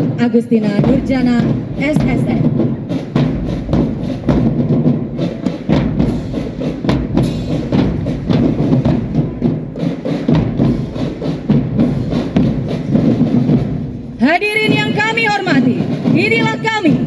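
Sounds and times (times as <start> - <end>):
marching drum band: 0.0 - 17.0.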